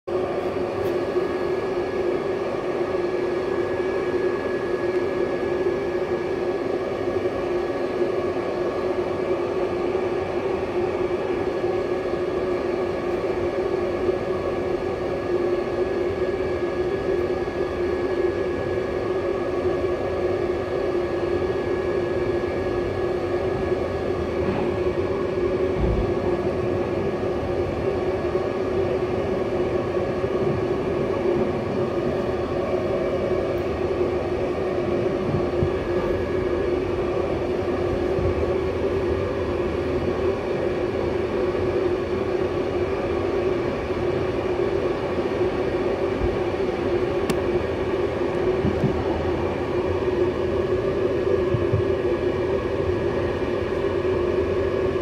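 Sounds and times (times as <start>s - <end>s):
train coach drone: 0.1s - 55.0s.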